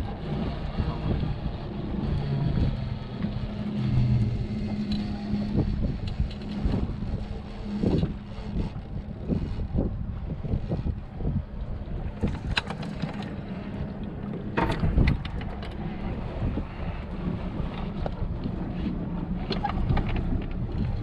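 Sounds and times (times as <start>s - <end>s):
boat engine humming: 0.0s - 21.0s
wind buffeting microphone: 0.0s - 21.0s.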